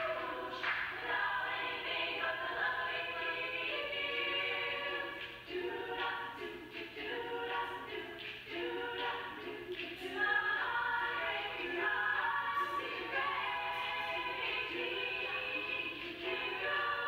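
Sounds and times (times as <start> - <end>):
group singing in harmony: 0.0 - 17.0.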